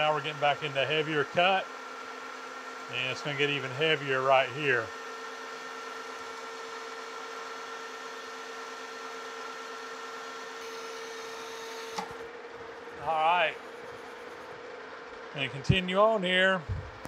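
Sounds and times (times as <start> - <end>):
lathe humming: 0.0 - 17.0.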